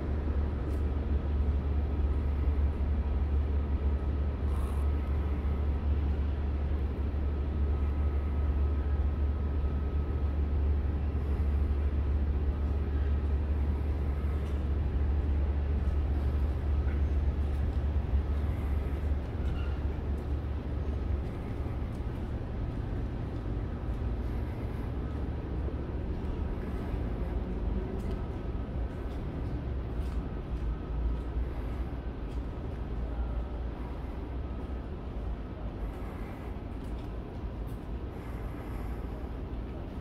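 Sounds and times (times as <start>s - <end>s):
city rumble: 0.0s - 40.0s.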